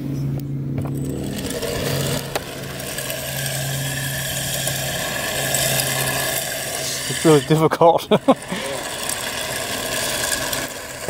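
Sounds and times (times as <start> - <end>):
steady low hum: 0.0 - 11.0
electric motor whining: 0.1 - 11.0
tyres hissing on asphalt: 1.1 - 11.0.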